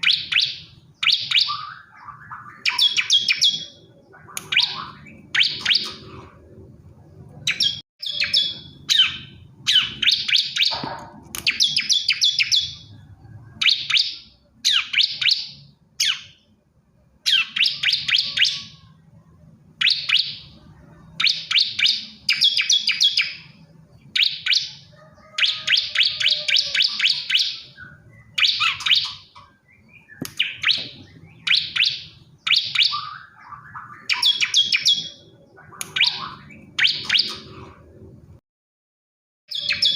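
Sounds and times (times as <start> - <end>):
bird rapid sharp chirping song: 0.0 - 6.5, 7.4 - 16.6, 17.2 - 18.9, 19.8 - 37.9, 39.5 - 39.9.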